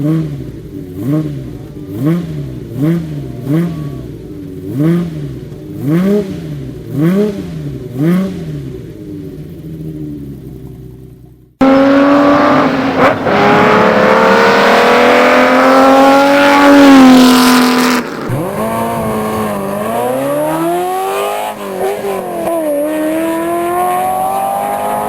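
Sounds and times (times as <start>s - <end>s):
racing car engine at high revs: 0.0s - 10.8s, 11.6s - 25.0s
engine shifting gears: 0.0s - 25.0s.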